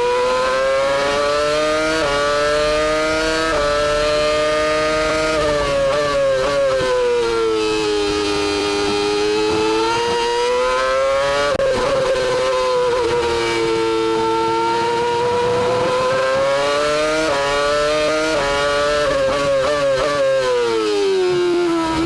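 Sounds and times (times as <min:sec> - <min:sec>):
racing car engine at high revs: 0:00.0 - 0:22.0.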